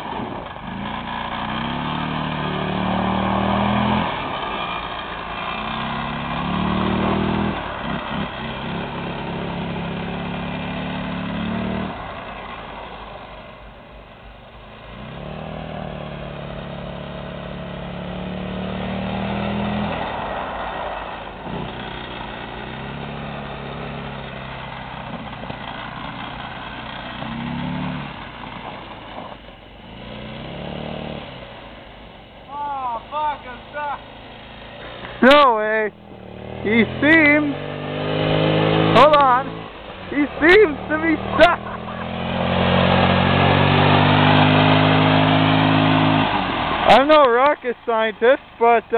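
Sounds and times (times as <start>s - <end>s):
atv engine revving: 0.0s - 13.7s, 14.7s - 48.9s.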